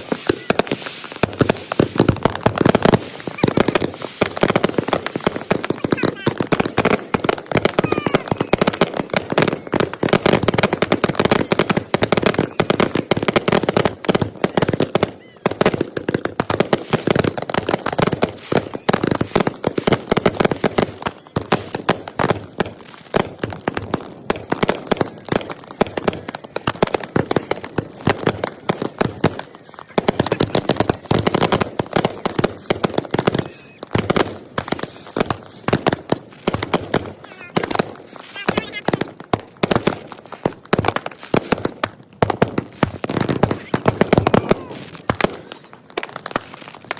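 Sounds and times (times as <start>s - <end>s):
fireworks and firecrackers banging: 0.0s - 46.9s.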